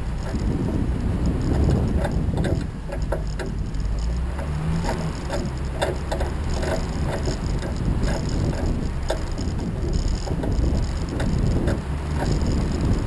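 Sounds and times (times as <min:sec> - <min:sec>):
clicks and rattles: 0:00.0 - 0:13.0
vehicle rumbling over rough ground: 0:00.0 - 0:13.0.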